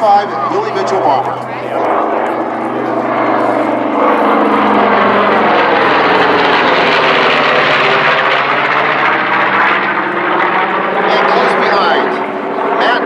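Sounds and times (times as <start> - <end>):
bomber radial engines passing: 0.0 - 13.0.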